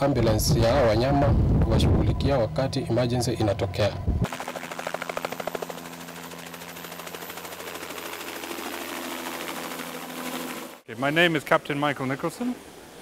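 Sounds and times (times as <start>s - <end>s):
helicopter rotor chopping: 0.0s - 13.0s
helicopter turbine hum: 0.0s - 13.0s.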